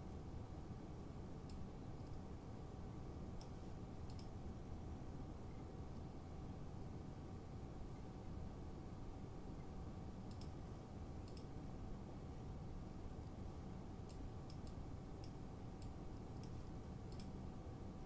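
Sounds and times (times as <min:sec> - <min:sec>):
low hum with constant tone: 0:00.0 - 0:18.0.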